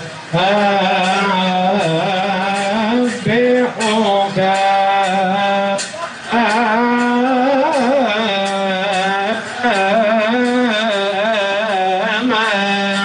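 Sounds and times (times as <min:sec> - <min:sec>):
men chanting a hymn: 0:00.0 - 0:13.0.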